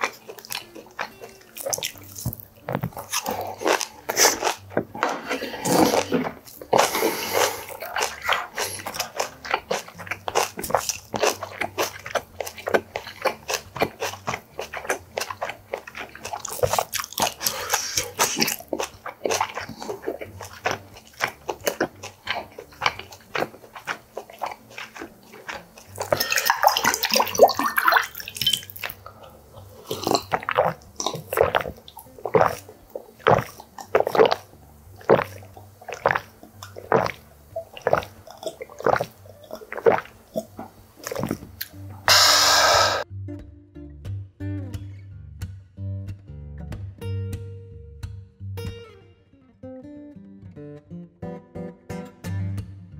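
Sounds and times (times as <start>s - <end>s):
person gulping water: 0.0s - 43.0s
wet crunchy chewing: 0.0s - 43.0s.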